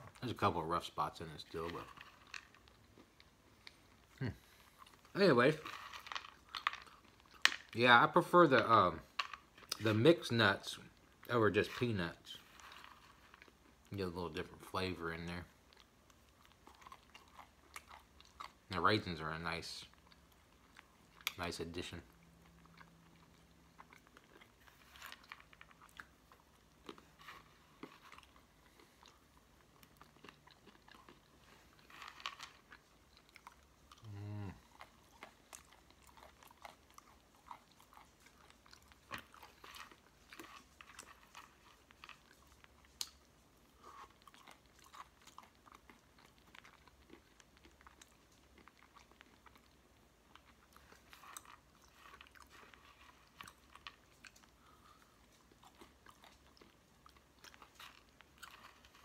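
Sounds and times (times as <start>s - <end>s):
person chewing nuts: 0.0s - 59.0s.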